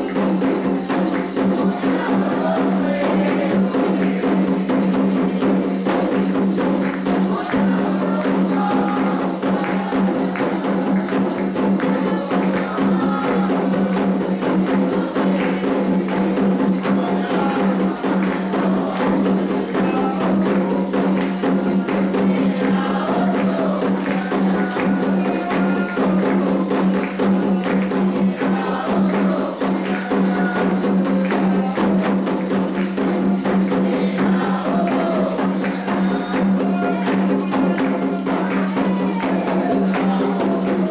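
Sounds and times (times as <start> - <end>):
hand drums playing fast rhythm: 0.0 - 40.9
hand percussion: 0.0 - 40.9
voices singing: 0.0 - 40.9.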